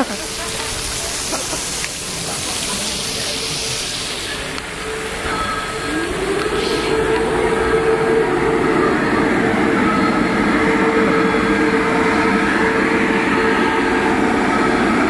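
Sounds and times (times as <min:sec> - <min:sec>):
fountain jets spraying water: 0:00.0 - 0:15.0.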